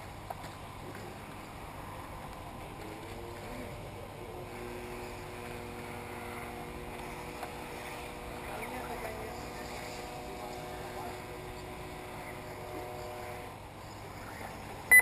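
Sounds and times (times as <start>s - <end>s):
toy car motors humming: 0.0s - 15.0s
whining motor tones: 0.8s - 15.0s.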